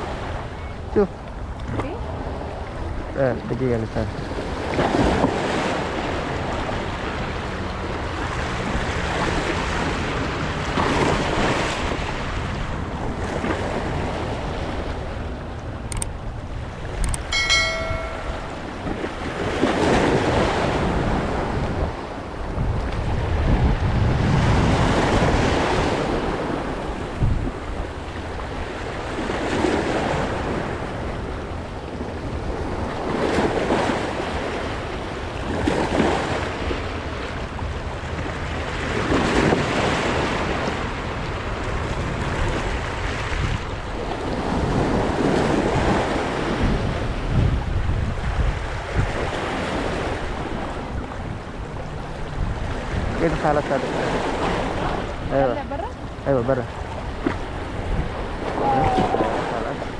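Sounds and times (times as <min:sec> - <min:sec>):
sea waves washing in: 0:00.0 - 0:59.9
wind buffeting microphone: 0:00.0 - 0:59.9.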